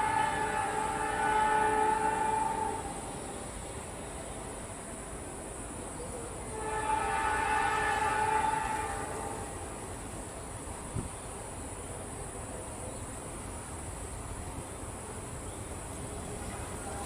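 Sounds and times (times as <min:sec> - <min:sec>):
insects calling: 0:00.0 - 0:17.0.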